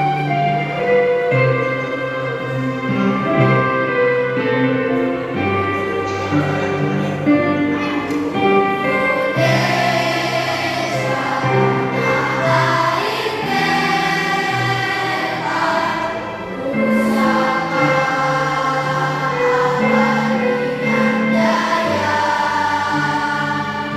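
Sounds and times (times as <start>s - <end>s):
children's choir singing: 0.0s - 23.9s
instrumental accompaniment: 0.0s - 23.9s.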